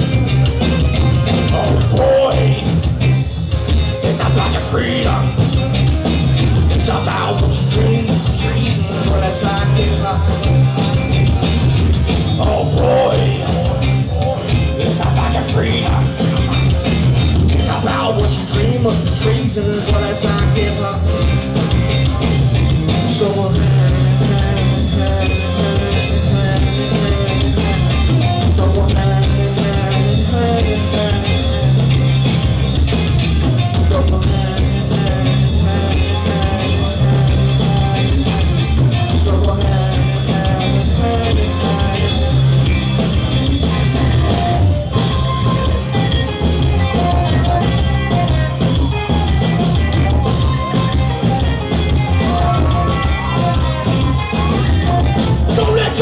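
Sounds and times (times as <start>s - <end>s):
bass guitar: 0.0s - 56.0s
drum kit: 0.0s - 56.0s
electric and acoustic guitars: 0.0s - 56.0s.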